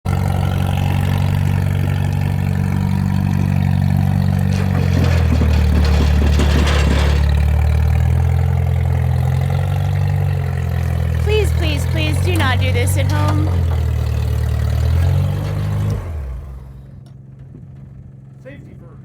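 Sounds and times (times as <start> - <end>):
engine idling: 0.0 - 18.5
engine clatter: 0.0 - 19.0.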